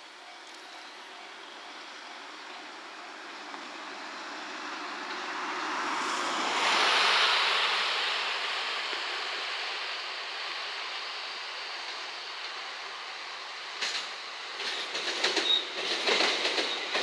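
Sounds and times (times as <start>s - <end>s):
electric train rail noise: 0.0s - 17.0s.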